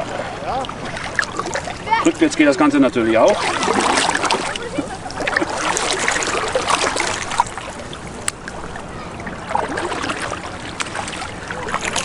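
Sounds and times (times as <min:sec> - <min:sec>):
paddle splashing water: 0:00.0 - 0:12.0.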